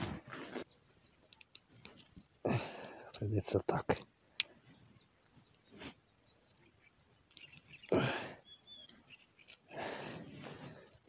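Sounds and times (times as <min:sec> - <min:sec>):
faint bird chirps: 0:00.5 - 0:11.0.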